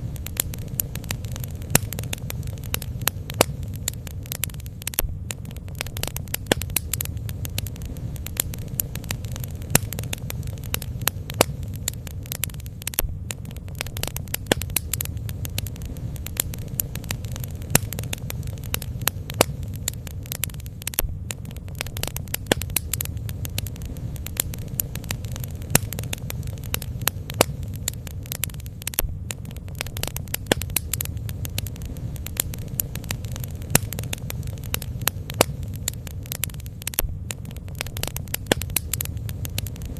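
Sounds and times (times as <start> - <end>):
low fire rumble: 0.0 - 39.9
wood crackling and popping: 0.0 - 39.9.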